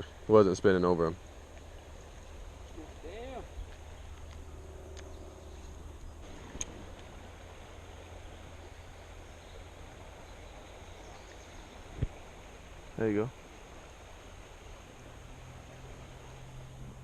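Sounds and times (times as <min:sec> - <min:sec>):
flowing water hiss: 0:00.0 - 0:17.0.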